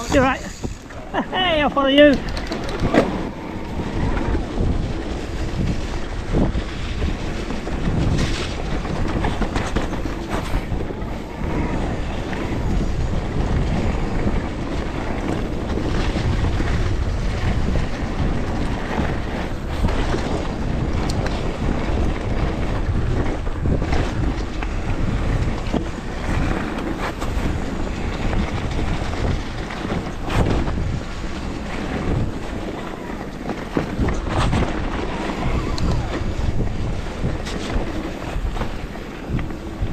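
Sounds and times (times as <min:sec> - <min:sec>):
bike rattling over bumps: 0:00.0 - 0:39.9
tyres rumbling on dirt trail: 0:00.0 - 0:39.9
wind buffeting microphone: 0:00.0 - 0:39.9.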